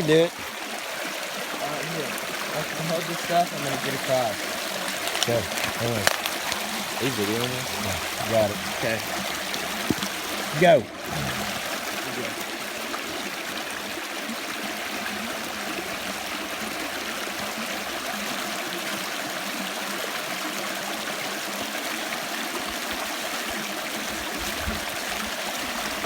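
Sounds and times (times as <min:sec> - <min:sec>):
creek water flowing: 0:00.0 - 0:26.0.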